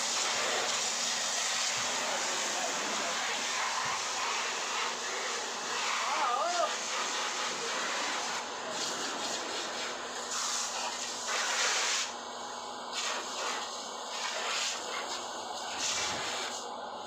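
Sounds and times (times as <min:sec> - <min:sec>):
hose water spraying on car: 0:00.0 - 0:17.0.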